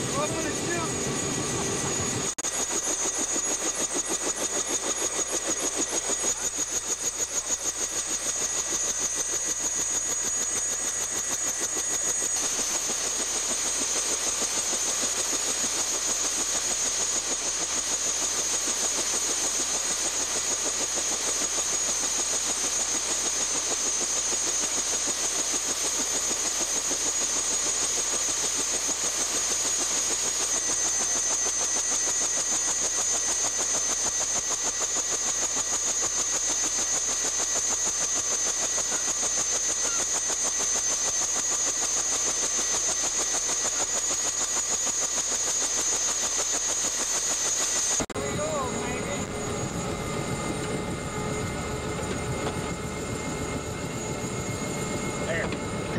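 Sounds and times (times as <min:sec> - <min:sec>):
helicopter turbine engine running: 0:00.0 - 0:55.9.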